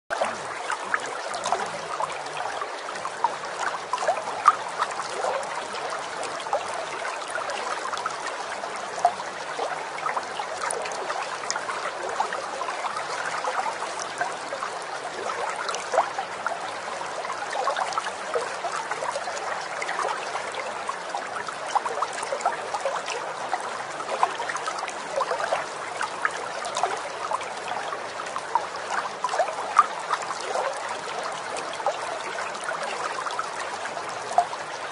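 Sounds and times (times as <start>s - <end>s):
small water splashes: 0.1s - 34.9s
stream trickling: 0.1s - 34.9s.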